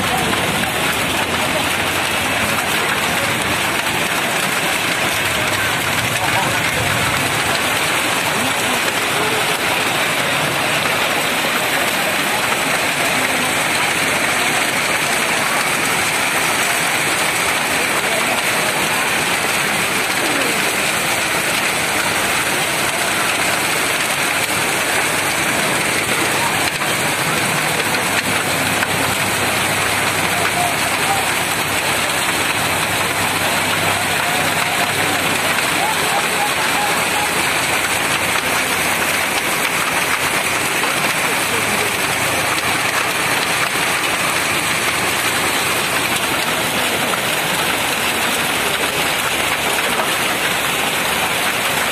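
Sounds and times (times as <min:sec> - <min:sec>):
hail and heavy rain falling: 0:00.0 - 0:51.9.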